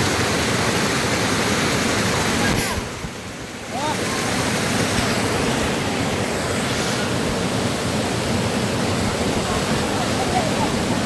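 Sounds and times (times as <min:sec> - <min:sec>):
stream rushing over weir: 0:00.0 - 0:11.0.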